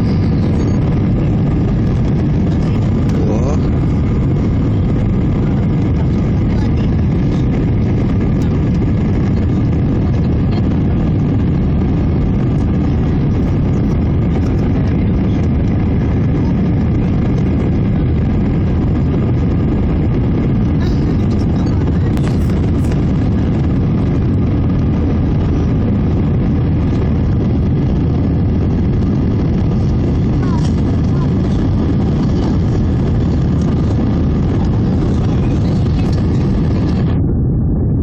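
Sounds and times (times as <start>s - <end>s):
jet engine and airflow rumble: 0.0s - 38.0s.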